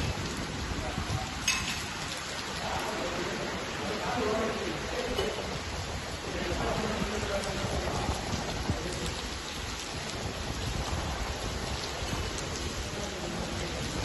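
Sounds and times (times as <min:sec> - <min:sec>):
heavy rain pouring: 0:00.0 - 0:14.0
strong wind: 0:00.0 - 0:14.0.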